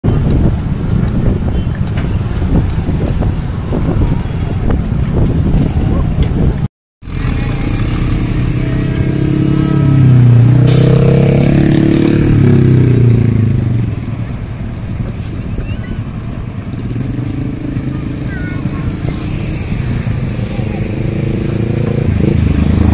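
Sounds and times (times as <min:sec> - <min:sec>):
diesel truck engine rumbling: 0:00.0 - 0:22.9.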